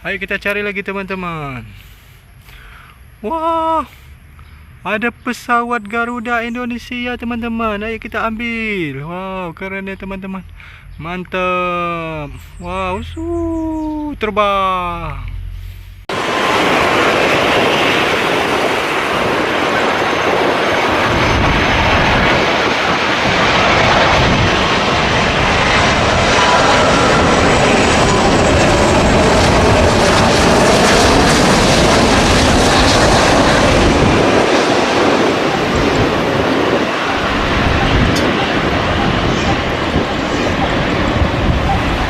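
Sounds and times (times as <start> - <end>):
jet engines roaring: 3.9 - 42.0.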